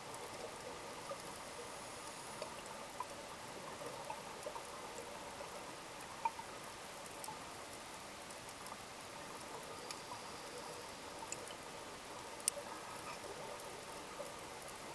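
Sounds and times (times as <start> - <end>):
faint clicks and crackles: 0.0 - 14.9
muffled underwater hiss: 0.0 - 14.9.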